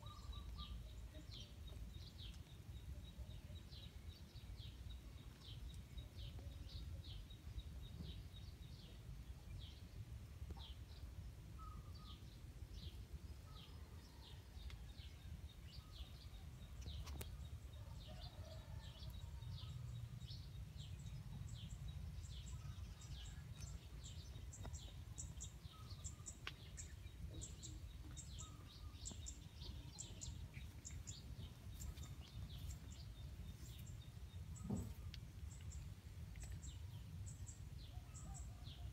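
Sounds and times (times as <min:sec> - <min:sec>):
small birds chirping: 0:00.0 - 0:14.3, 0:19.6 - 0:38.9.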